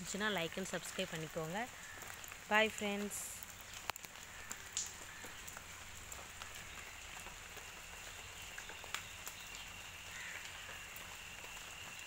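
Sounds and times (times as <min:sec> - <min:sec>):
light rain on plants: 0:00.0 - 0:12.0.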